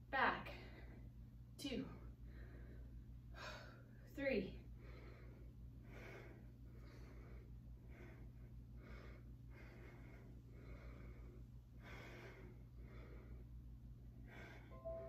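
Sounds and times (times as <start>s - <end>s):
low steady hum: 0.0s - 15.0s
woman breathing with exertion: 2.0s - 4.0s, 4.6s - 15.0s.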